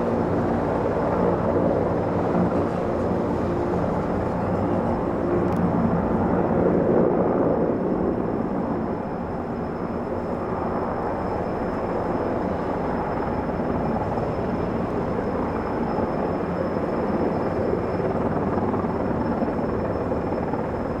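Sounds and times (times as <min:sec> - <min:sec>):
helicopter in flight: 0:00.0 - 0:21.0.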